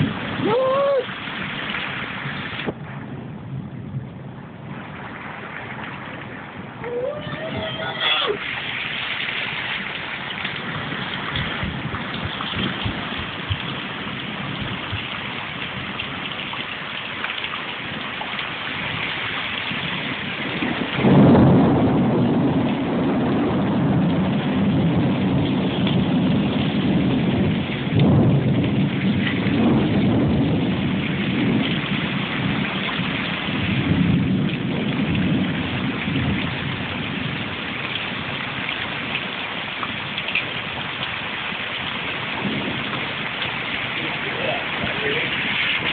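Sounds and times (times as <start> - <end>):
heavy rain on paving: 0.0 - 45.9
thunderclap rolling: 0.0 - 45.9.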